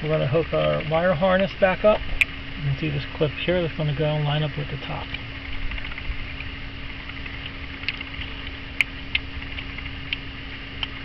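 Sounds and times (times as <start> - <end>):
low hum and rumble: 0.0 - 11.0.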